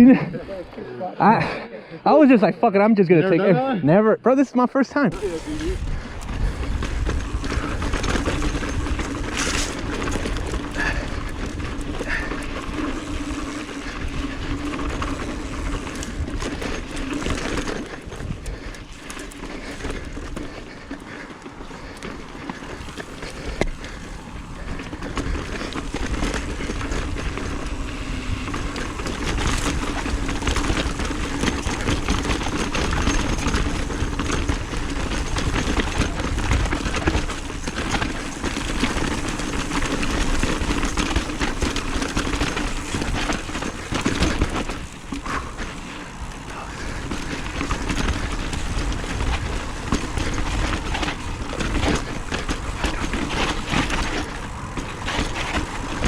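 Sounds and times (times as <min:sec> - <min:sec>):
bike tyres on dirt: 0:04.5 - 0:56.0
bike rattles and knocks: 0:05.1 - 0:56.0.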